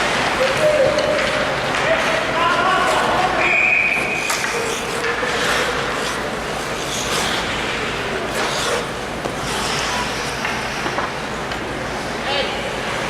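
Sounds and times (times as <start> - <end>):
arena crowd hubbub: 0.0 - 13.0
ice skates scraping ice: 0.1 - 11.2.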